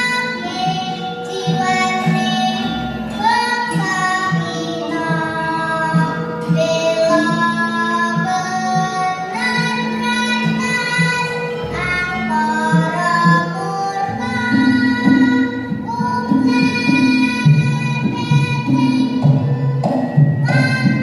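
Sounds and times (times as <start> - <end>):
instrumental accompaniment: 0.0 - 21.0
low pulsing notes: 0.0 - 21.0.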